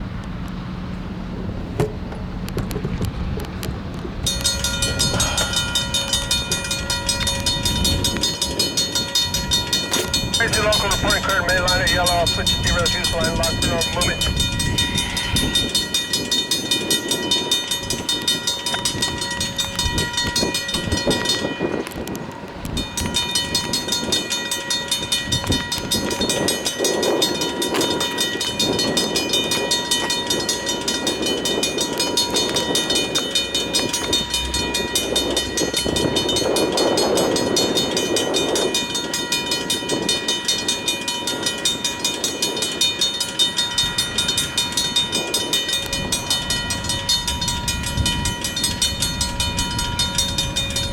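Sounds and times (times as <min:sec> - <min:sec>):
train low rumble: 0:00.0 - 0:50.9
railroad crossing bell ringing: 0:04.1 - 0:50.9.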